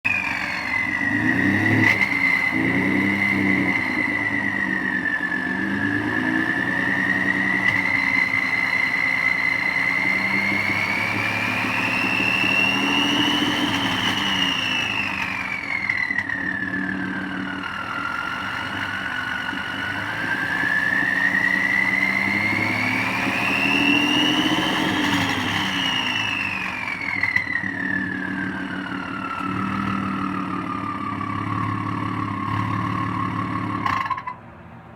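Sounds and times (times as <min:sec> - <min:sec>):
truck engine with turbo whistle: 0:00.0 - 0:34.9.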